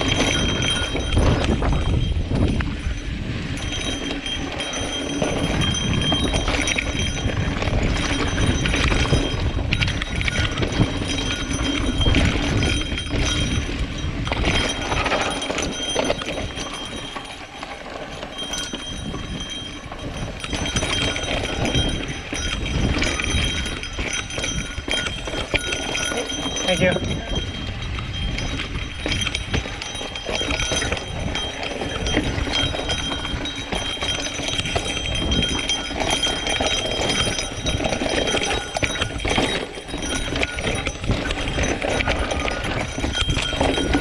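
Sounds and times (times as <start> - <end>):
bike rattling over bumps: 0.0 - 44.0.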